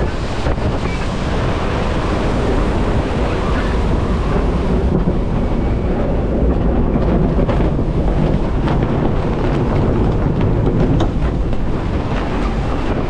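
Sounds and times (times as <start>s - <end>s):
breaking seas rushing: 0.0s - 13.0s
gale wind buffeting microphone: 0.0s - 13.0s.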